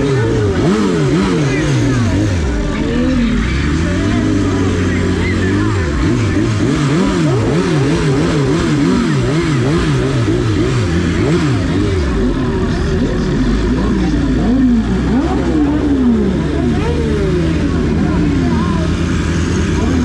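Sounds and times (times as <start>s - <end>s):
low engine idle: 0.0s - 20.0s
motorcycle engines revving: 0.0s - 20.0s.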